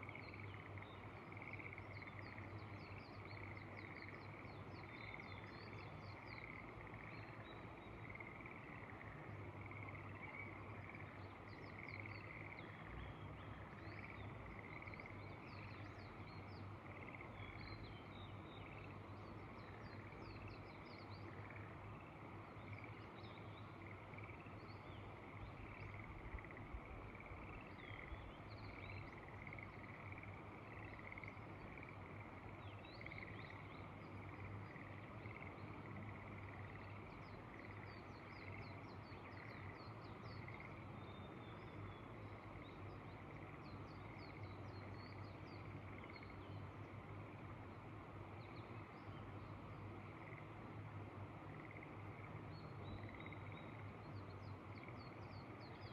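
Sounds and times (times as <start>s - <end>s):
frogs calling: 0.0s - 49.1s, 49.7s - 55.9s.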